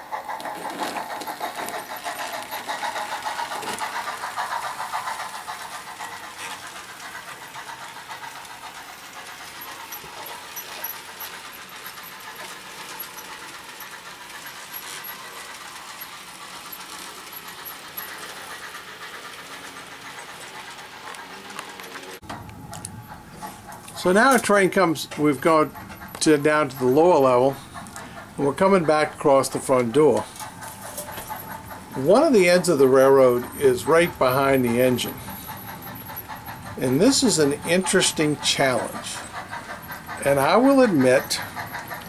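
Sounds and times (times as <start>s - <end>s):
model train running: 0.0s - 42.0s.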